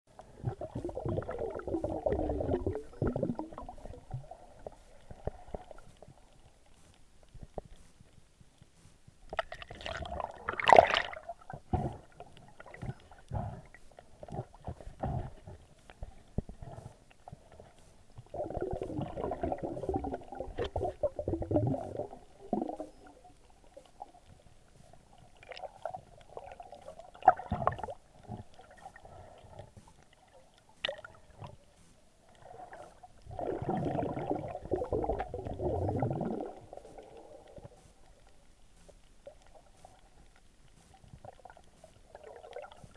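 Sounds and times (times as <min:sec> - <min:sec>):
underwater gurgling and sloshing: 0:00.1 - 0:42.9.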